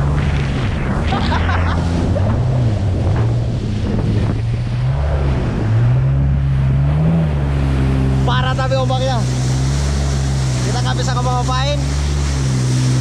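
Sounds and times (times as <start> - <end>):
wind on microphone: 0.0 - 10.8
jet ski engine running: 0.0 - 13.0
rush of spray: 0.0 - 13.0.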